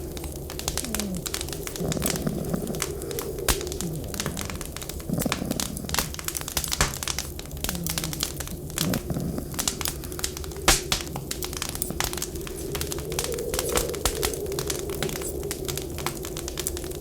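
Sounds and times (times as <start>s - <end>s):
wind whistling: 0.0s - 17.0s
wood fire crackling: 0.0s - 17.0s.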